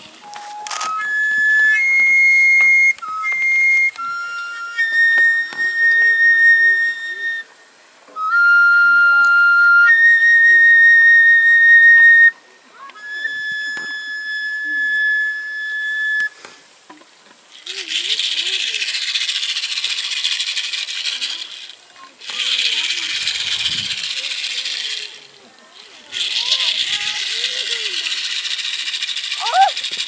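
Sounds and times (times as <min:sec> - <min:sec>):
wooden flute melody: 0:00.0 - 0:16.8, 0:17.5 - 0:25.2, 0:25.8 - 0:30.0.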